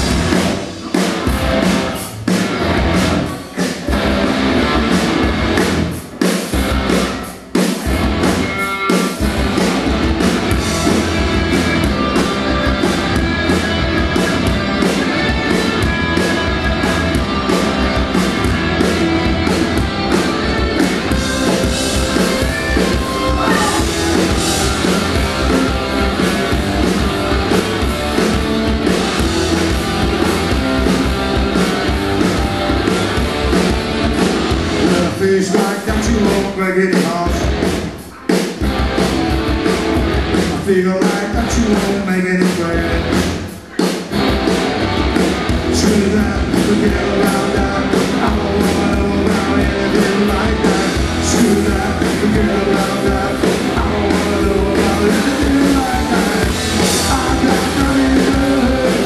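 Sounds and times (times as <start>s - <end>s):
instrumental rock music: 0.0s - 59.0s.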